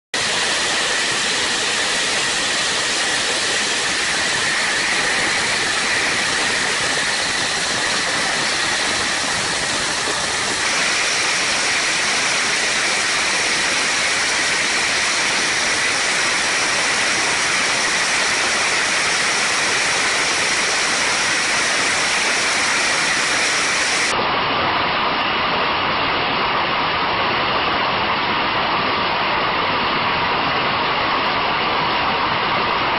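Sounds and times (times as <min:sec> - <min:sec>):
jet engine and airflow rush: 0:00.1 - 0:32.9.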